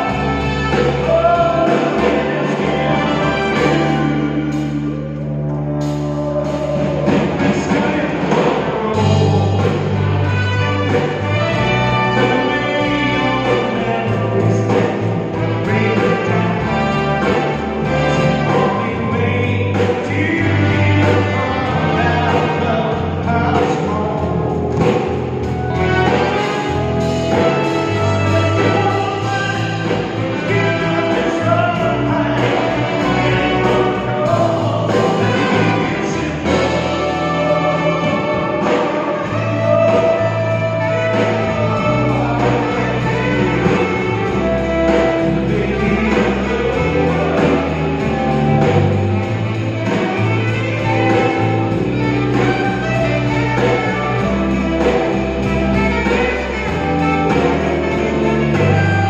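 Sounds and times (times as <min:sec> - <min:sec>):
man singing: 0:00.0 - 0:59.0
swing big band playing: 0:00.0 - 0:59.0.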